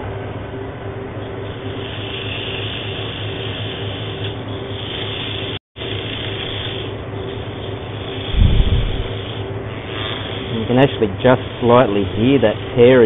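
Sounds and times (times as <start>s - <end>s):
sandpaper rasping on spinning wood: 1.7s - 13.0s.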